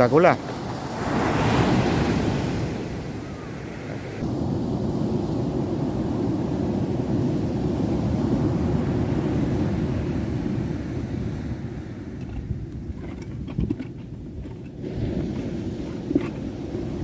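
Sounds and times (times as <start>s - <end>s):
wind buffeting microphone: 1.0s - 17.0s.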